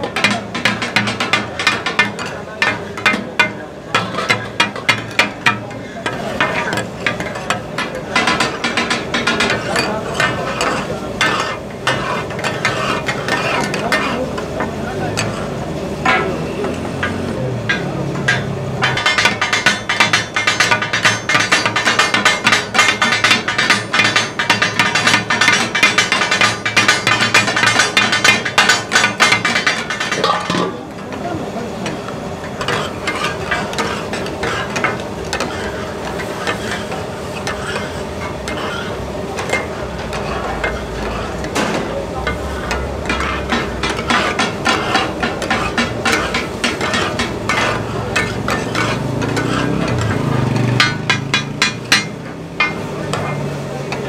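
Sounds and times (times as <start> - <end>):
spatulas clattering on a griddle: 0.0 - 54.0.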